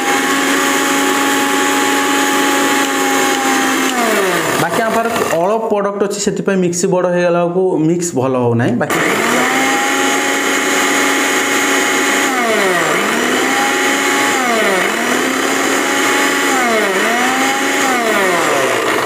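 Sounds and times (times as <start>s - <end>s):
mixer grinder motor running: 0.0s - 5.7s, 8.9s - 19.0s.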